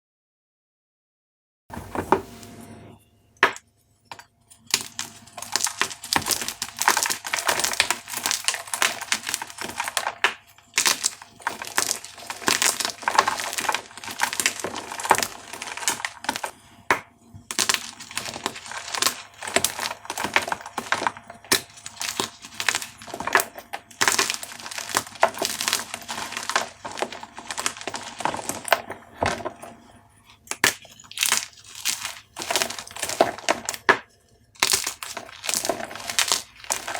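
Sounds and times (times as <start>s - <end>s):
chalk cubes crunching: 4.7s - 16.7s, 17.5s - 29.6s, 30.3s - 34.0s, 34.6s - 36.9s.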